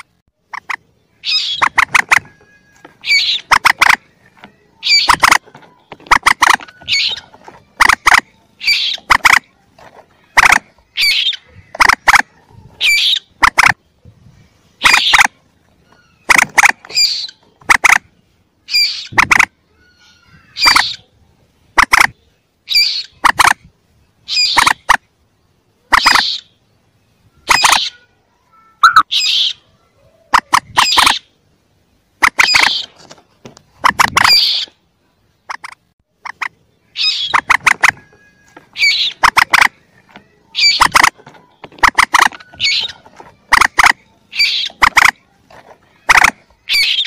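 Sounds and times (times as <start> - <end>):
young moorhen calls: 0.0 - 13.8, 14.8 - 21.2, 21.8 - 23.6, 24.2 - 25.0, 25.8 - 26.7, 27.3 - 31.4, 32.2 - 33.0, 33.8 - 34.8, 35.5 - 47.0.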